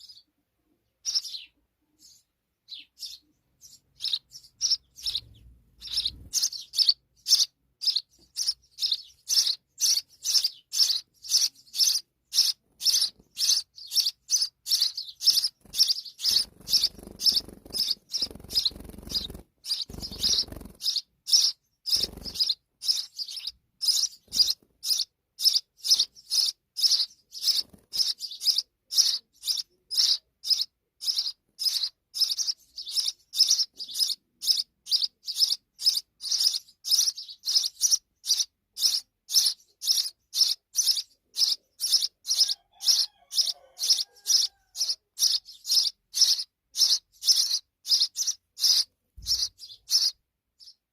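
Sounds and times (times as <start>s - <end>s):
sparrow chirping: 0.0s - 50.9s.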